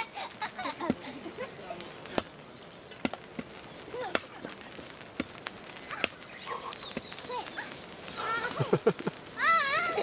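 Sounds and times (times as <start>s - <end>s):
campfire crackling and popping: 0.0s - 10.0s.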